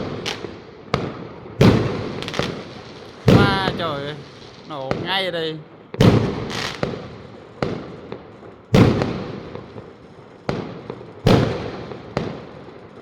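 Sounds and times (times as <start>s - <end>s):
fireworks exploding: 0.0s - 13.0s.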